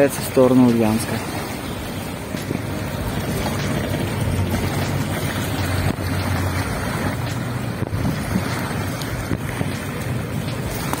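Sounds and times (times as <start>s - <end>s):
wind on microphone: 1.2s - 11.0s.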